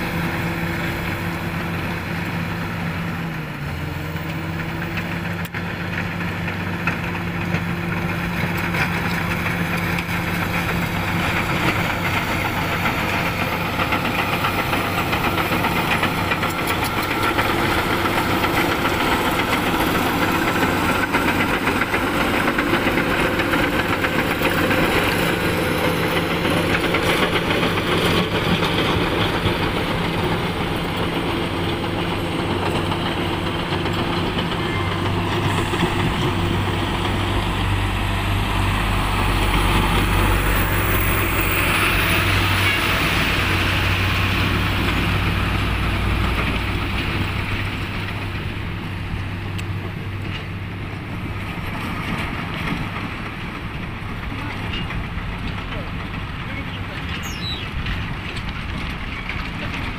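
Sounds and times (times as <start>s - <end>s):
bulldozer diesel engine: 0.0s - 59.9s
steel tracks clattering: 0.0s - 59.9s.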